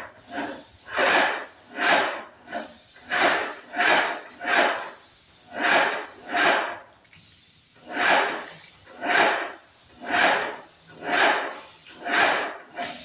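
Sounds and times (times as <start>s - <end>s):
spray gun hissing: 0.0s - 13.0s.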